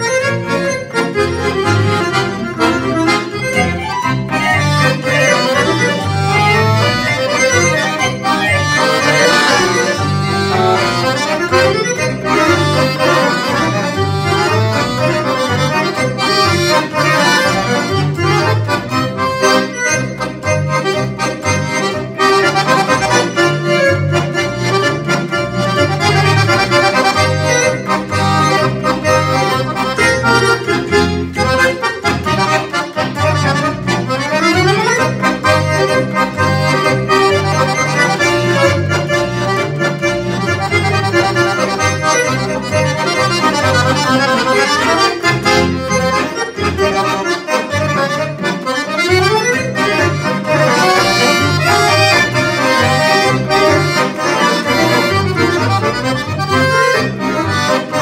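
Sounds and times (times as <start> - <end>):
accordion duet polka: 0.0 - 58.0
alternating bass: 0.0 - 58.0.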